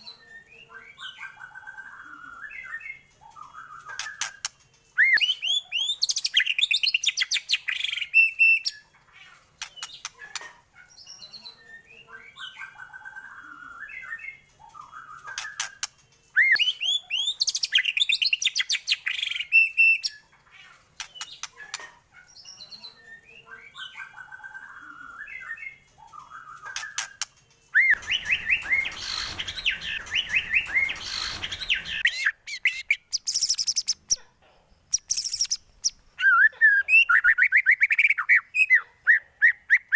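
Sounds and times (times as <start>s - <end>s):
bird whistles and trills: 0.0s - 8.9s, 9.6s - 20.3s, 21.0s - 34.0s, 34.9s - 39.9s.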